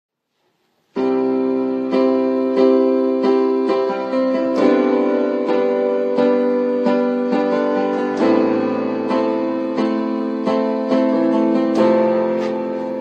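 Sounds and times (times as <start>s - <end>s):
piano chords: 0.9s - 13.0s.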